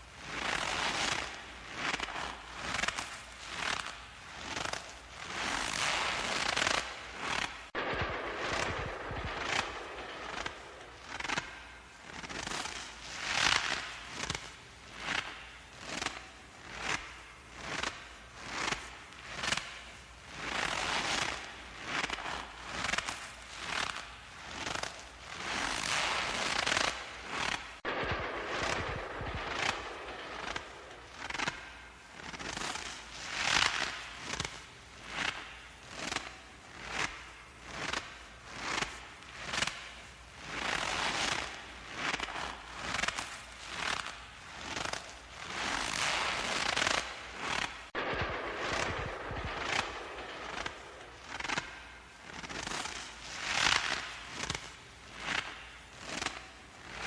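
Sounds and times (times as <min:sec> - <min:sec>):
footsteps crunching in snow: 0:00.0 - 0:57.0.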